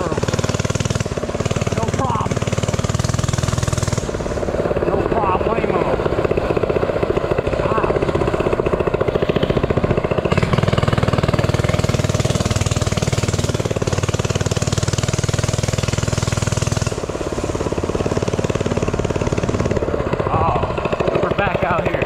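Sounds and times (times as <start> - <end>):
minibike engine revving: 0.0 - 22.0.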